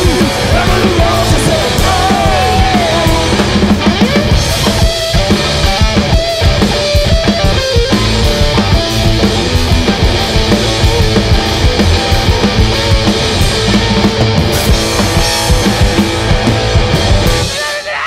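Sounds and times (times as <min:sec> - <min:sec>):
distorted electric guitar: 0:00.0 - 0:18.0
driving drum kit: 0:00.0 - 0:18.0.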